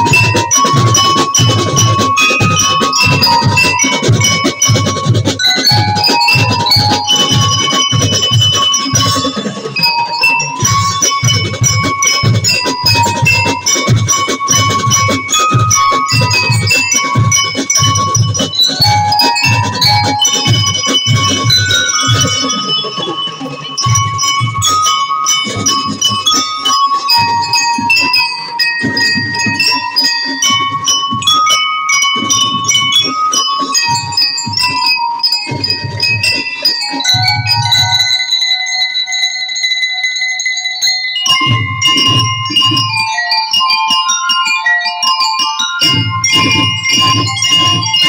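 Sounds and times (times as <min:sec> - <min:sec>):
drum strokes: 0:00.0 - 0:38.3, 0:45.8 - 0:48.0
bell lyres ringing melody: 0:00.0 - 0:48.0.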